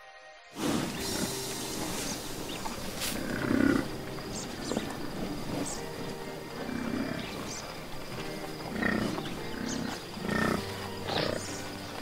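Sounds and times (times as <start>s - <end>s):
bison grunting: 0.6s - 12.0s.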